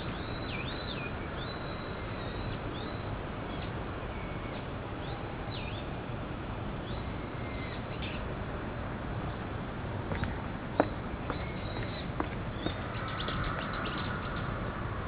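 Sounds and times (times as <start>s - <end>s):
steady low rumble: 2.0s - 15.0s.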